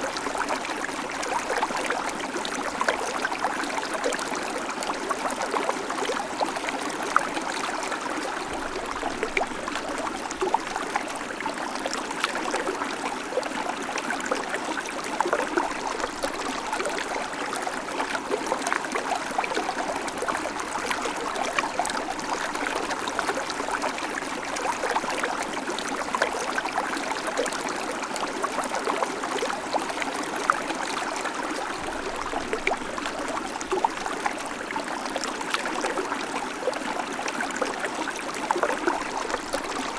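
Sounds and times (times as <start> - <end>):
creek water running over stones: 0.0 - 39.9.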